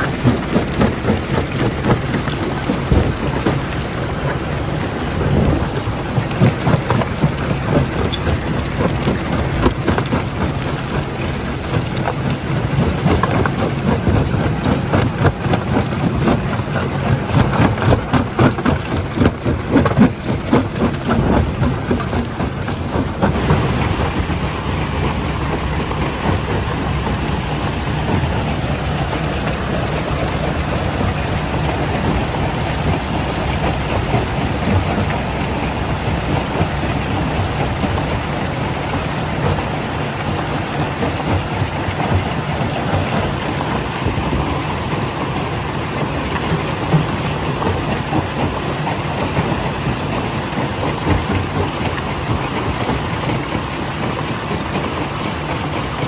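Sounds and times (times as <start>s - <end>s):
crusher machine rumble: 0.0s - 56.0s.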